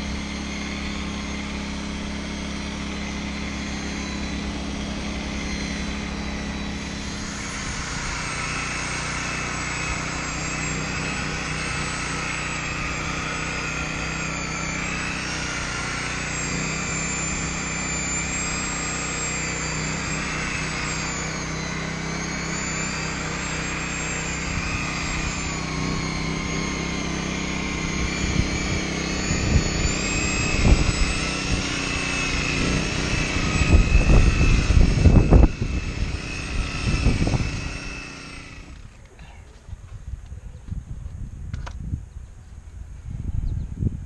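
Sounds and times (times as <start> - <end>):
electric buffer motor whine: 0.0 - 40.0.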